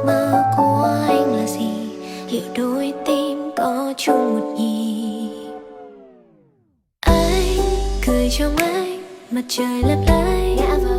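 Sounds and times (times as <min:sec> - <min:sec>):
slow gentle song: 0:00.0 - 0:10.9.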